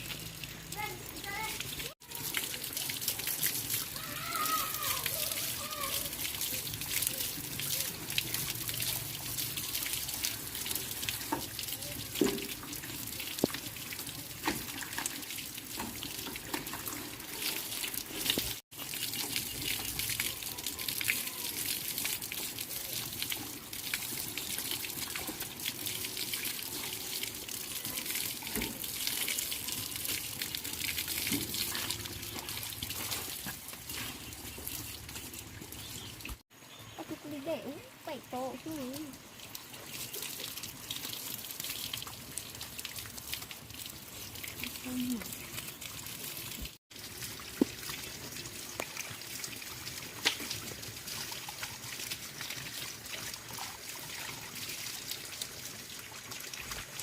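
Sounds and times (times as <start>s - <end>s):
running water splashing: 0.0s - 57.0s.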